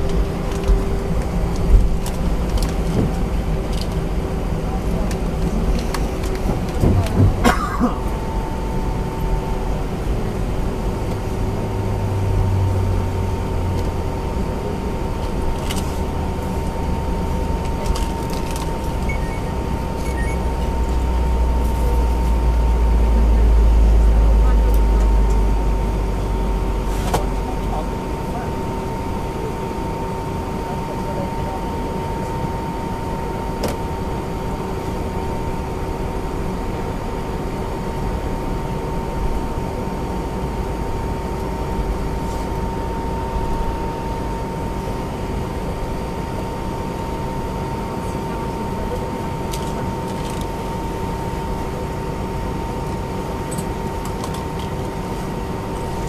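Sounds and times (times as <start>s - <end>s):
airplane engines idling: 0.0s - 56.0s.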